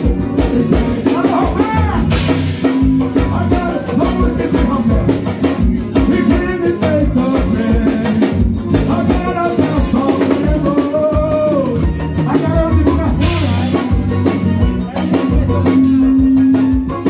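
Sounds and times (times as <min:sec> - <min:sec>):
accordion melody: 0:00.0 - 0:17.0
bass drum and drum kit beat: 0:00.0 - 0:17.0.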